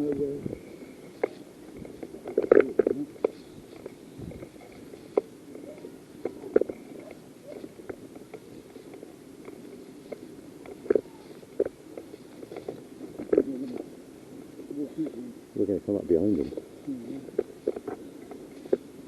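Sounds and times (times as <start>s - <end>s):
body-worn camera rustling: 0.0s - 19.0s.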